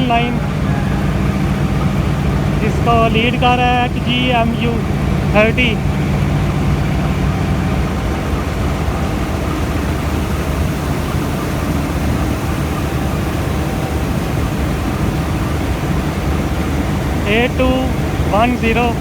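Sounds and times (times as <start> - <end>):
steady low hum: 0.0 - 19.0
train running with low rumble: 0.0 - 19.0.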